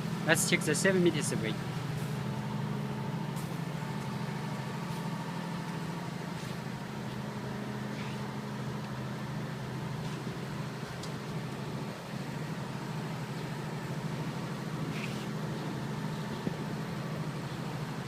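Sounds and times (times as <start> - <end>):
diesel generator humming: 0.0 - 18.0.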